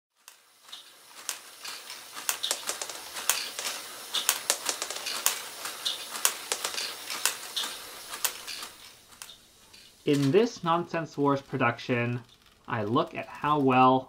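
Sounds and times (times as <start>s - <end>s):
plastic balls rattling and clicking: 0.2s - 14.0s.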